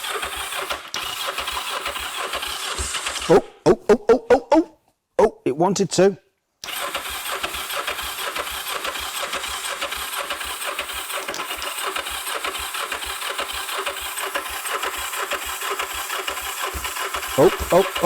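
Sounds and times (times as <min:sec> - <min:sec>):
motorcycle engine cranking: 0:00.0 - 0:03.3, 0:06.6 - 0:18.0.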